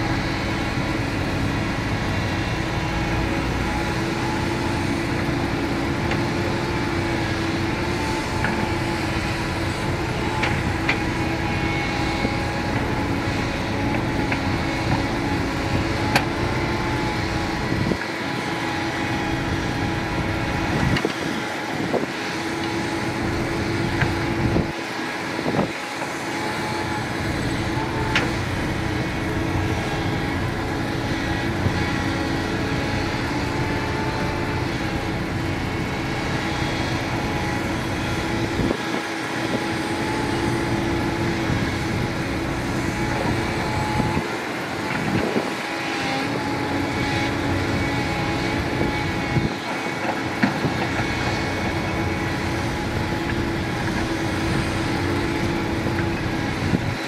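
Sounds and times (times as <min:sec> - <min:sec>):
excavator diesel engine running: 0:00.0 - 0:57.0
steady whine: 0:00.0 - 0:57.0.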